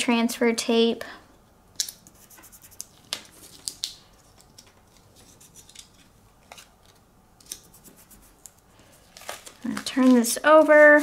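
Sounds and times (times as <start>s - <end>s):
paper rustling: 2.1s - 11.0s.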